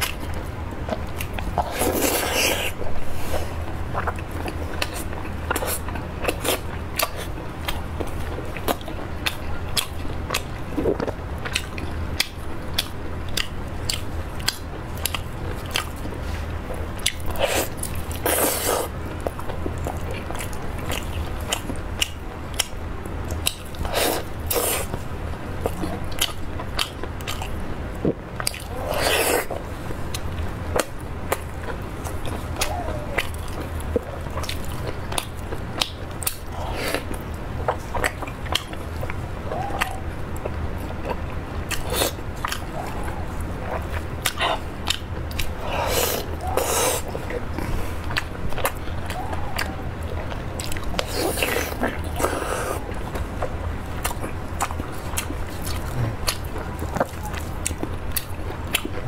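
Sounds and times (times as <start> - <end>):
steady low hum: 0.0 - 59.0
wet chewing and mouth clicks: 0.0 - 59.0.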